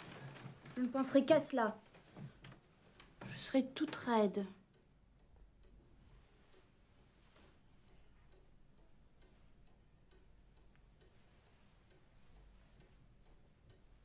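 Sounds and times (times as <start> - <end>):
clock ticking faintly: 0.0 - 14.0.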